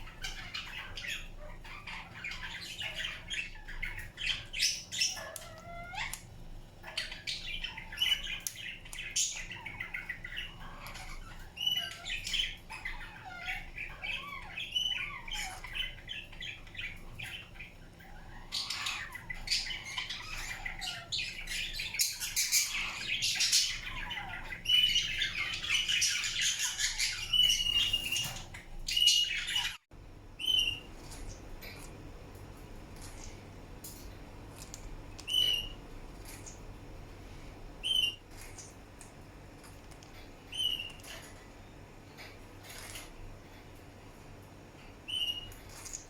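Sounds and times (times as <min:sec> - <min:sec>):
parakeet chattering and squawking: 0:00.0 - 0:29.8, 0:30.4 - 0:32.0, 0:34.6 - 0:36.7, 0:37.8 - 0:38.8, 0:39.4 - 0:43.3, 0:45.0 - 0:46.0.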